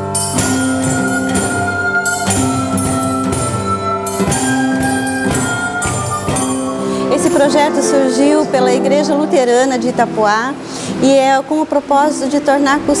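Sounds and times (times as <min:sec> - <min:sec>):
instrumental music with held chords: 0:00.0 - 0:11.2
light percussion: 0:00.0 - 0:13.0.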